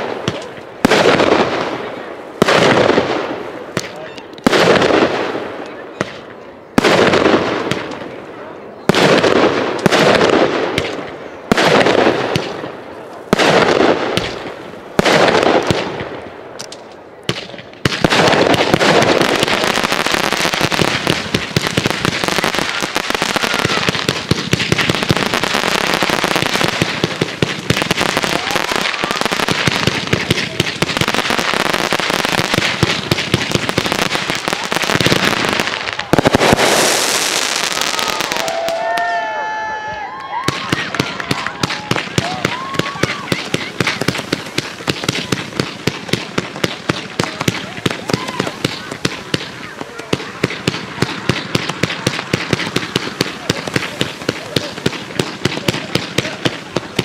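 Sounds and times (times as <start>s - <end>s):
firework shells booming: 0.0s - 8.2s, 8.9s - 38.8s, 40.4s - 57.0s
rapid firework crackling: 0.0s - 8.2s, 8.9s - 39.3s, 40.4s - 57.0s.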